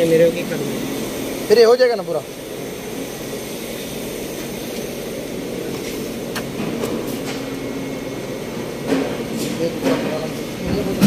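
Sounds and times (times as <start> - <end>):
factory machinery humming: 0.0 - 11.0.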